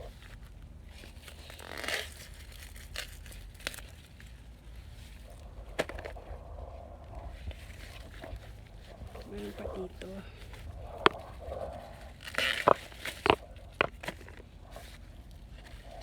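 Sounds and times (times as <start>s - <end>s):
corn leaves rustling: 0.0s - 16.0s.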